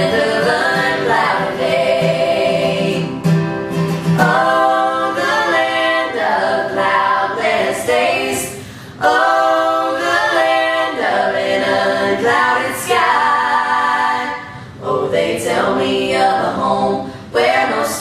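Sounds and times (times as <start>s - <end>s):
choir singing a hymn in harmony: 0.0s - 3.1s, 4.2s - 18.0s.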